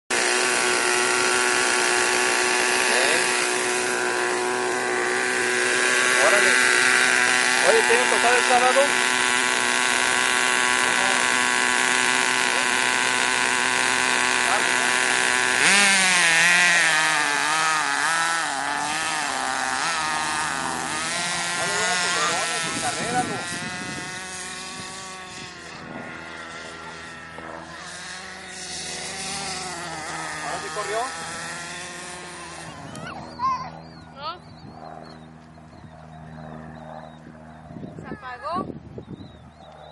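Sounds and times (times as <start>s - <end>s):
model engine buzzing idle: 0.1s - 38.6s.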